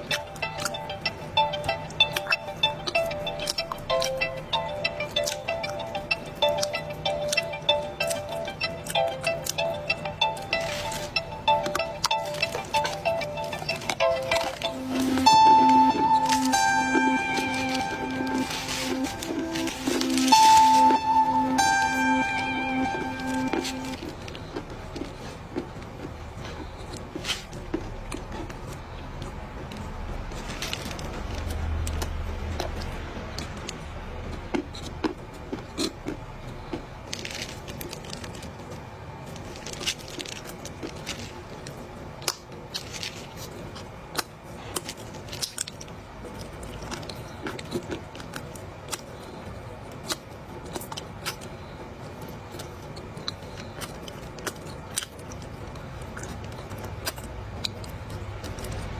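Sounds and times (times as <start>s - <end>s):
crunches and crackles of chewing: 0.0s - 58.9s.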